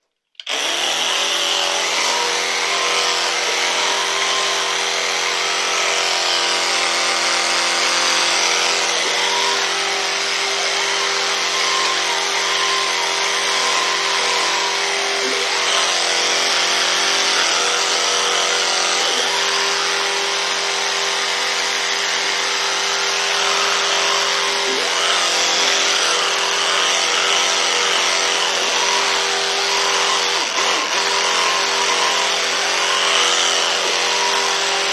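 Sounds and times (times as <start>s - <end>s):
electric toothbrush buzzing: 0.4s - 34.9s.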